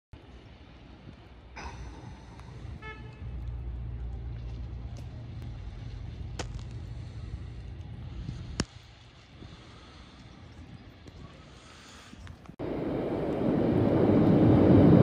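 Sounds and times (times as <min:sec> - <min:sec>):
low outdoor rumble: 0:00.2 - 0:15.0.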